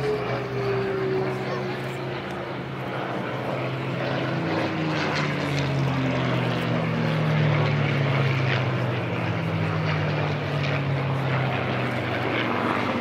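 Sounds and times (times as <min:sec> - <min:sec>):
propeller planes flying past: 0:00.0 - 0:13.0.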